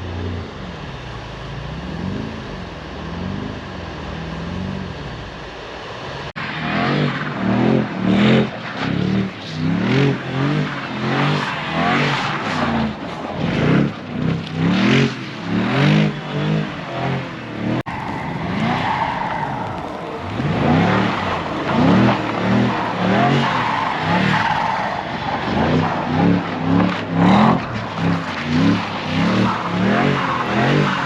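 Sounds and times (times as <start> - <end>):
car engine revving: 0.0 - 31.0
tyres spinning on snow: 0.0 - 31.0.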